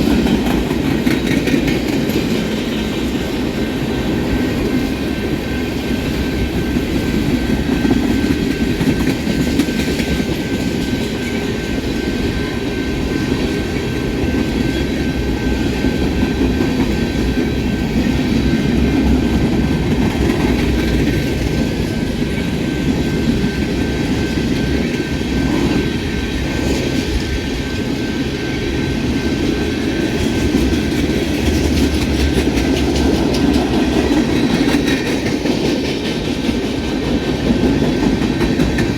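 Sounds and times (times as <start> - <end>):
train rolling past: 0.0 - 38.9.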